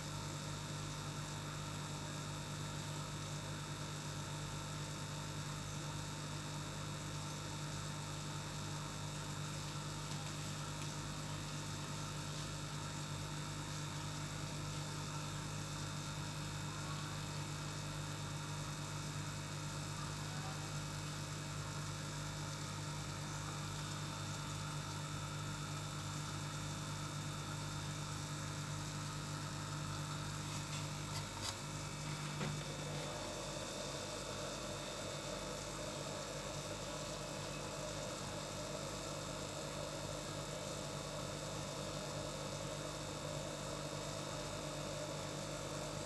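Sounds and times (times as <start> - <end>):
aquarium air pump humming: 0.0 - 46.0.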